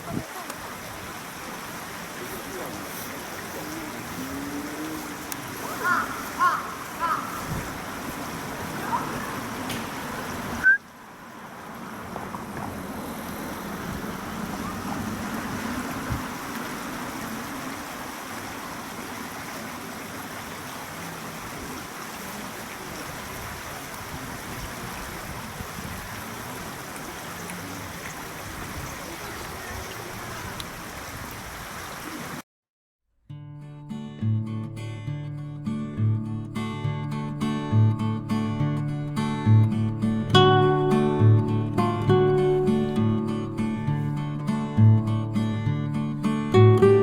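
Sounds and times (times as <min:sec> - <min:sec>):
river babbling over shallows: 0:00.0 - 0:32.4, 0:36.6 - 0:47.0.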